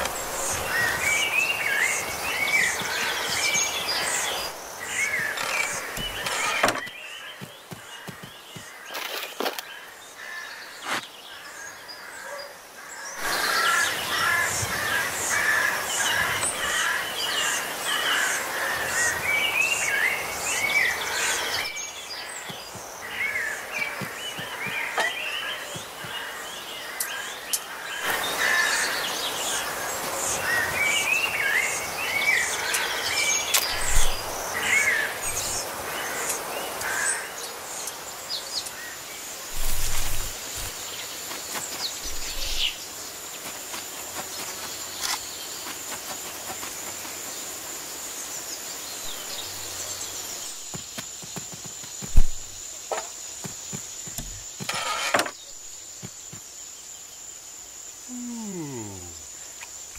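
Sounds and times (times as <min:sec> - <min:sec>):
songbirds chirping and trilling: 0:00.0 - 0:59.9
woodland background: 0:00.0 - 0:59.9.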